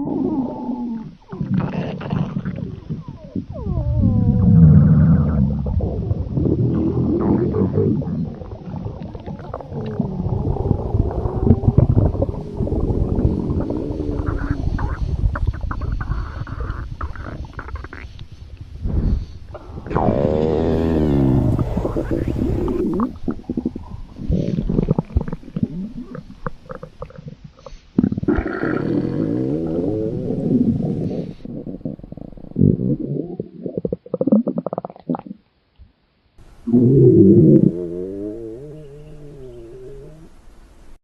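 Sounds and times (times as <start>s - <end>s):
stomach gurgling rumble: 0.0s - 35.5s.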